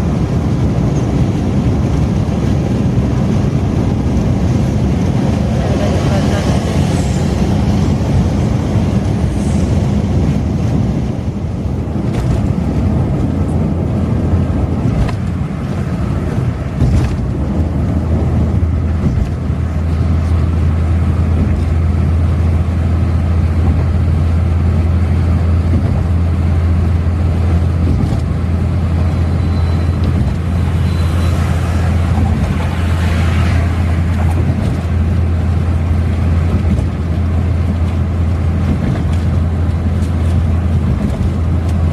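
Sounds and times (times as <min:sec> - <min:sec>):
car engine drone: 0:00.0 - 0:41.9
road and wind noise: 0:00.0 - 0:41.9.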